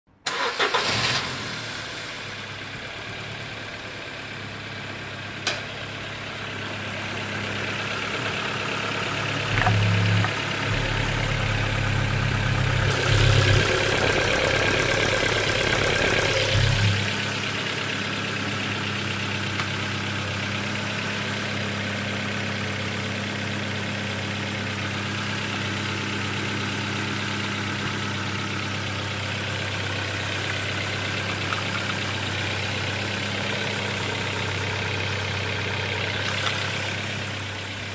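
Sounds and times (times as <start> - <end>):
car engine revving and idling: 0.5 - 37.9.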